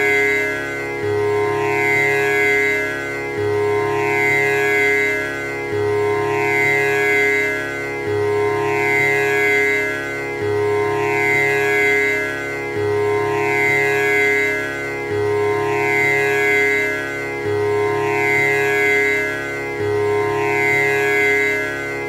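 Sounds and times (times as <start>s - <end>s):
tanpura drone: 0.0s - 22.0s.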